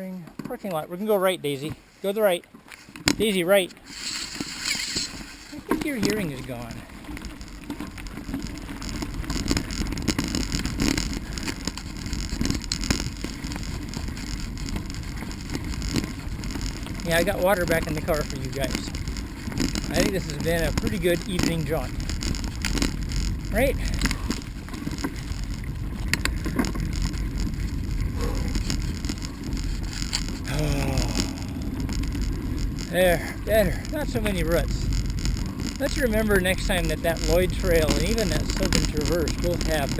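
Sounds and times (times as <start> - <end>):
bicycle tyre and wind rumble: 0.0 - 39.9
bike rattling and knocking: 4.4 - 39.9.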